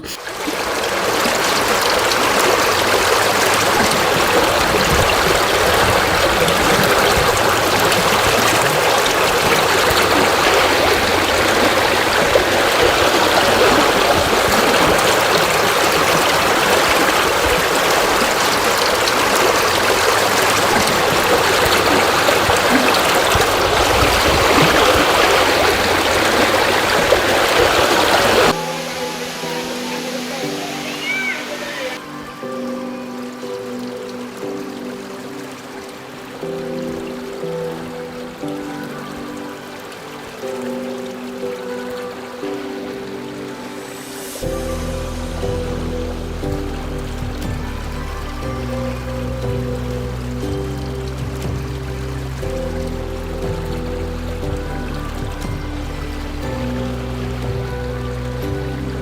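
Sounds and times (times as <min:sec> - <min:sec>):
waterfall splashing into pool: 0:00.0 - 0:59.0.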